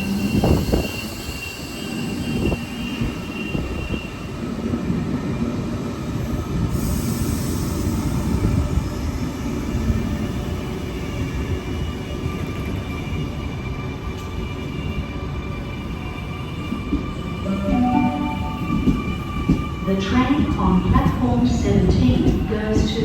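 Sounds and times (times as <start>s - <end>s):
electric train rumble: 0.0s - 23.0s.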